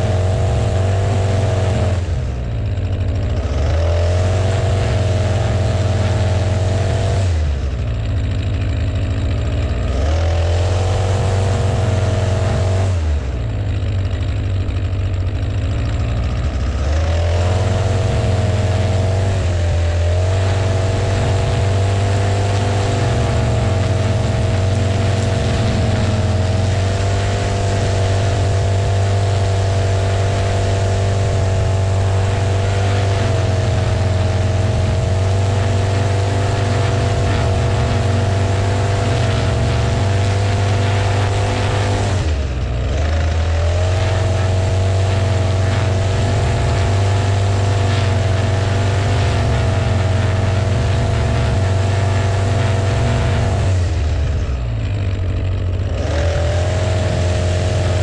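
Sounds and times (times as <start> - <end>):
string trimmer cutting grass: 0.0 - 58.0.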